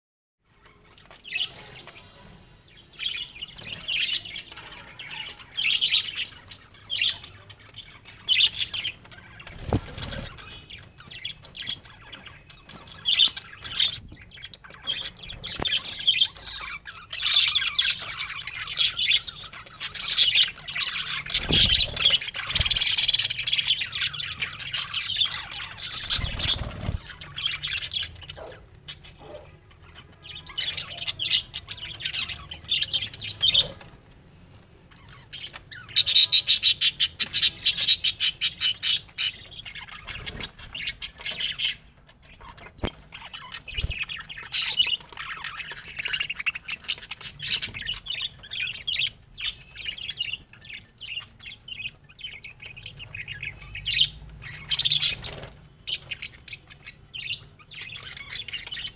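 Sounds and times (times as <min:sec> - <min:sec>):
budgerigars chirping: 0:00.6 - 0:33.9, 0:34.9 - 0:58.9.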